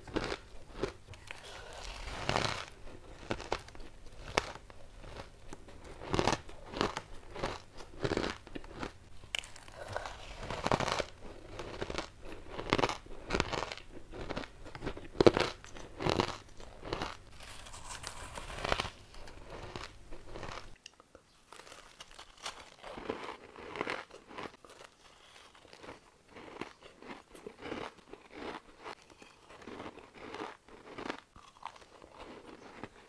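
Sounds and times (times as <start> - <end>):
ice being chewed: 0.0 - 20.8, 21.5 - 33.0.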